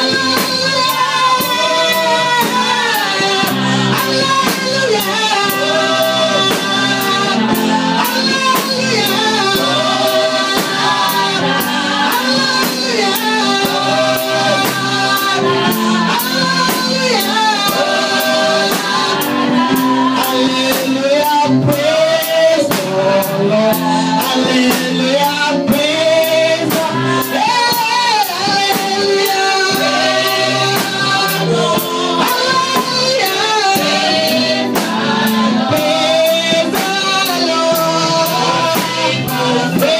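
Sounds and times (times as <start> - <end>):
drum kit beat: 0.0 - 39.9
gospel singing: 0.0 - 39.9
guitar: 0.0 - 39.9.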